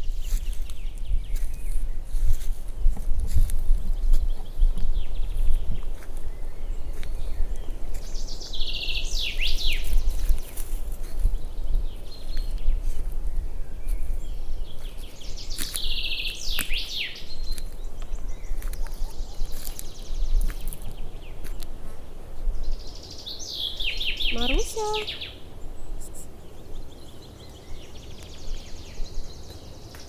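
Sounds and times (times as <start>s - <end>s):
nightingale singing: 0.0s - 21.7s, 22.7s - 30.0s.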